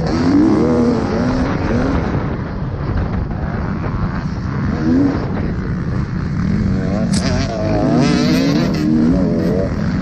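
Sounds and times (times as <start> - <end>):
dirt bike engine racing: 0.0 - 10.0.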